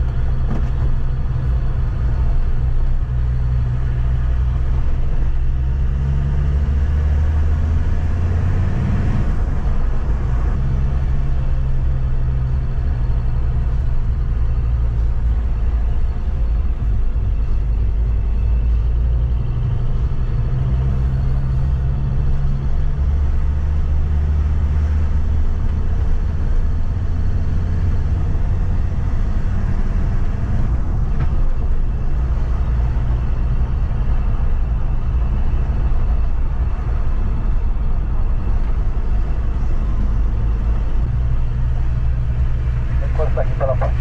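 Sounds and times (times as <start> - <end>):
car engine drone: 0.0 - 44.0
road noise: 0.0 - 44.0.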